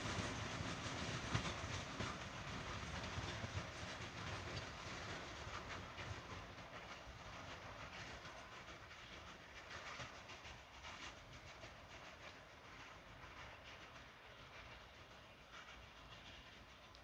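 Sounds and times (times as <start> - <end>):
train wheels clicking over rail joints: 0.0 - 17.0.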